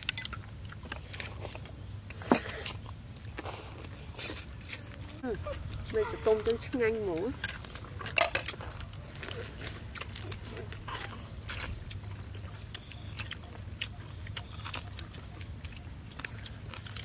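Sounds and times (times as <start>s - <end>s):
chewing: 0.0s - 17.0s.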